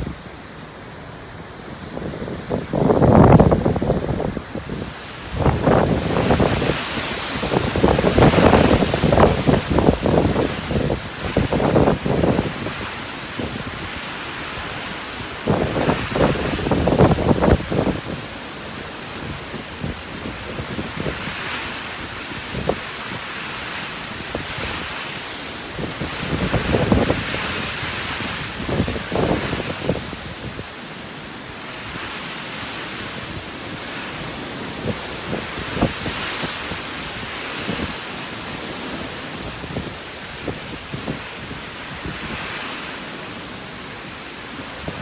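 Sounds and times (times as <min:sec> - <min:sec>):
strong wind rushing: 0:00.0 - 0:00.3, 0:01.2 - 0:30.7, 0:31.7 - 0:42.8
wind buffeting microphone: 0:01.4 - 0:30.9, 0:31.7 - 0:43.6, 0:44.4 - 0:45.0.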